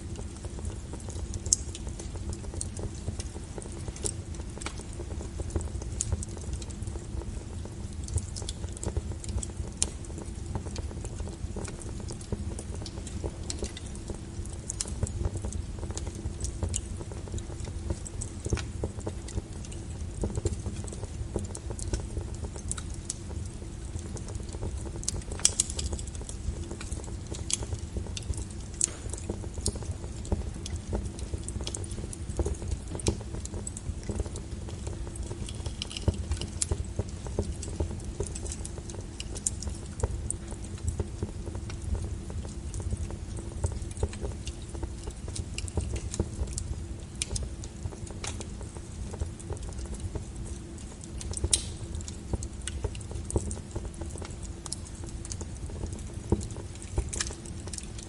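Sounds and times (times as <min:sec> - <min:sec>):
burning logs low rumble: 0:00.0 - 0:58.0
fire popping and snapping: 0:00.0 - 0:58.0.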